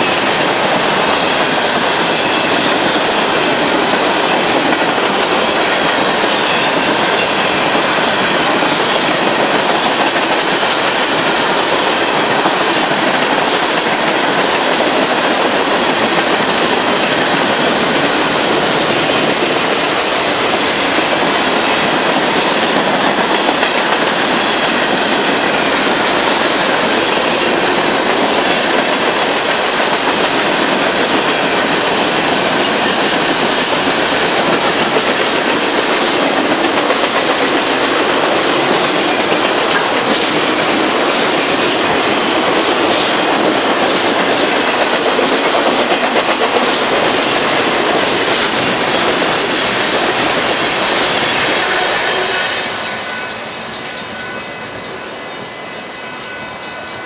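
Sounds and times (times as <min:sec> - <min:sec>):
freight train wheels on rail: 0:00.0 - 0:57.0.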